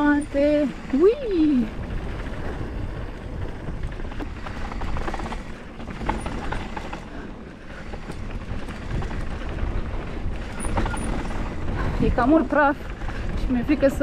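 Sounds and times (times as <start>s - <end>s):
tyres rumbling on dirt: 0.0s - 14.0s
bike clicks and rattles: 1.7s - 14.0s.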